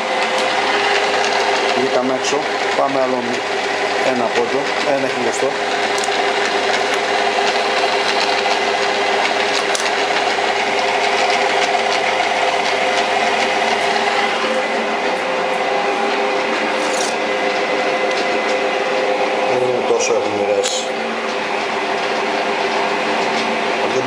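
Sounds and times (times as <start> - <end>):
metal lathe cutting steel: 0.0 - 24.0.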